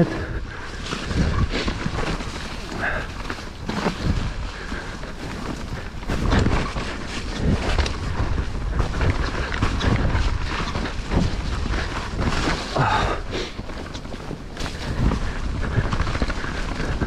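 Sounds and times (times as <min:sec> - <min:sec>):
bike knocks and rattles: 0:00.0 - 0:17.0
bike tyres rumbling on dirt: 0:00.0 - 0:17.0
wind buffeting microphone: 0:00.0 - 0:17.0.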